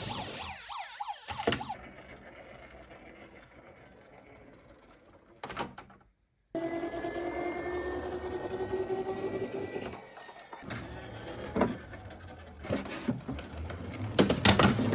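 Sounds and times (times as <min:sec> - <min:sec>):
toy car mechanical whir: 0:00.0 - 0:05.4, 0:06.6 - 0:14.9.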